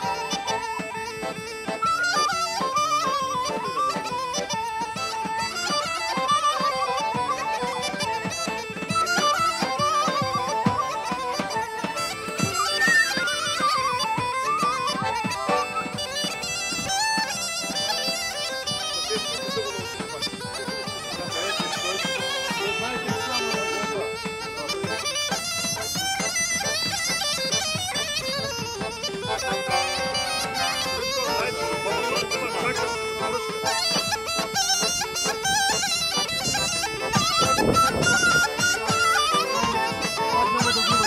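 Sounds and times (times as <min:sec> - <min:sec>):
accordion chords: 0:00.0 - 0:41.0
woodwind melody: 0:00.0 - 0:41.0.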